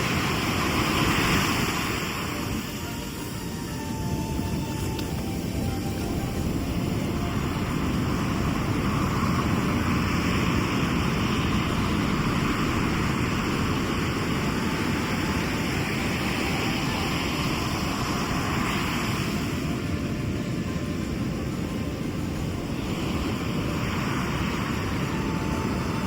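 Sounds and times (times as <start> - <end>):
low sea rumble: 0.0 - 26.0
sea surf washing in: 0.0 - 26.0.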